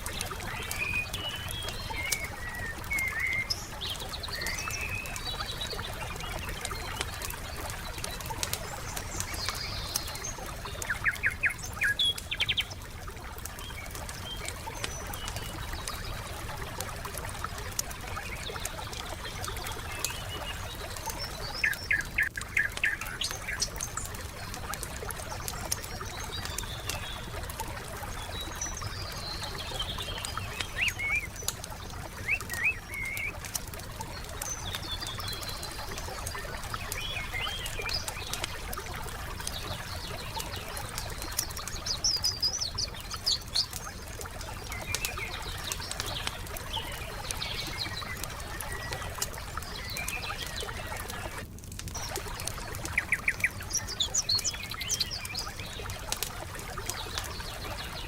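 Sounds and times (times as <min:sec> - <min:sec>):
campfire crackling and popping: 0:00.0 - 0:58.0
small birds chirping: 0:00.0 - 0:58.0.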